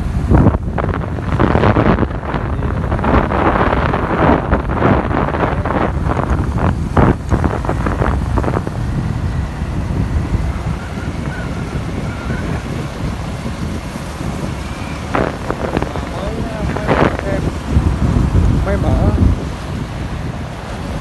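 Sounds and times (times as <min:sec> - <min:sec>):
vehicle low rumble: 0:00.0 - 0:21.0
wind buffeting microphone: 0:00.0 - 0:21.0.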